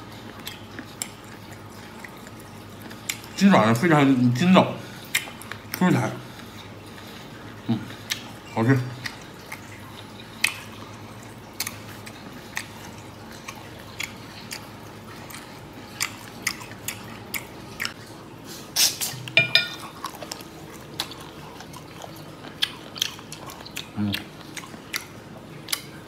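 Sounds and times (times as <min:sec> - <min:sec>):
close-up chewing: 0:00.0 - 0:03.5, 0:04.8 - 0:26.0.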